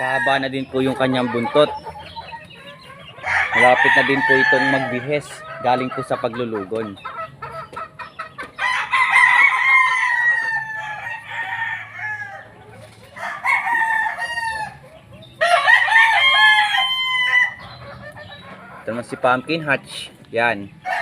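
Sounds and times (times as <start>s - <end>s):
rooster clucks: 0.0s - 21.0s
roosters crowing: 0.0s - 21.0s.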